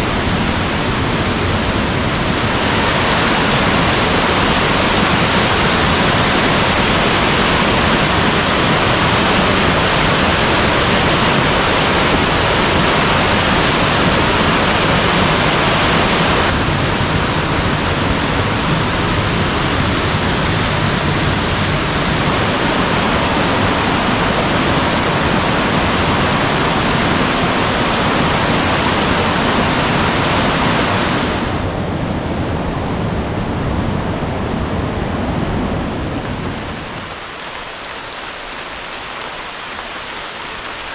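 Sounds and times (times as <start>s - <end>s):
water rushing over rocks: 0.0s - 31.8s, 35.5s - 40.9s.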